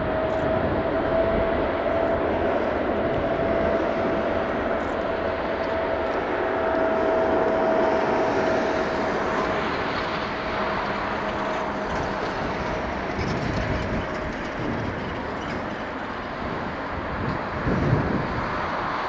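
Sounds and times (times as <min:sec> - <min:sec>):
jet engines rushing and whining: 0:00.0 - 0:19.0.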